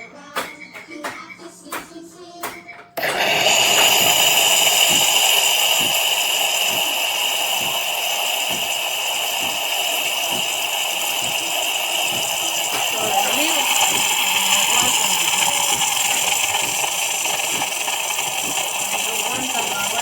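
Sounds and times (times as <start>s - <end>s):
espresso machine hissing: 3.0s - 20.0s.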